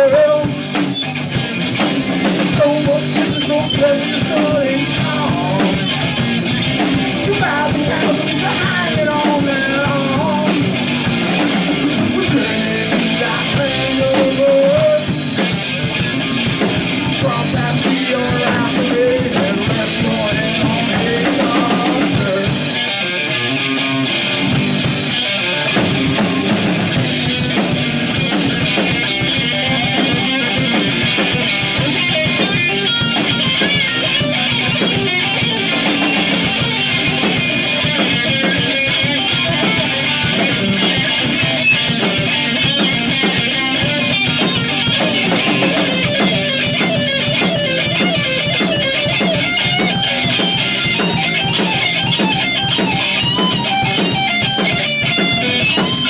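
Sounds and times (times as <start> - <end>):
drum kit: 0.0 - 56.0
electric bass: 0.0 - 56.0
electric guitar: 0.0 - 56.0.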